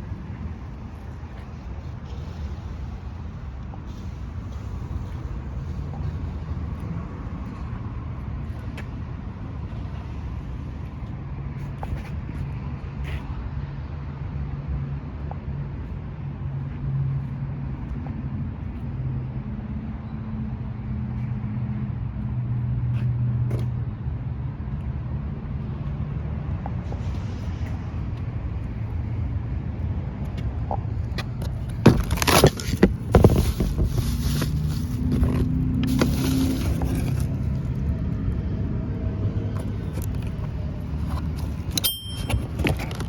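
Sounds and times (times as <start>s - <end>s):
vehicle engine humming: 0.0s - 43.0s.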